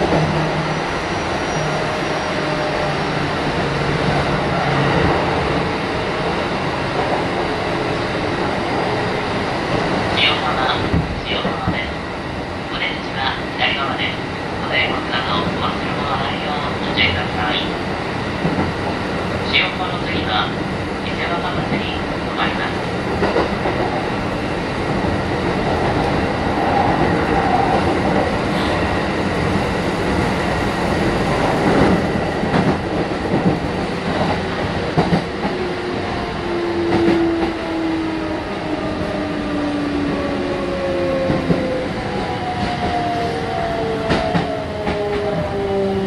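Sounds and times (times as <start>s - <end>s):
train wheel-on-rail rumble: 0.0s - 46.0s.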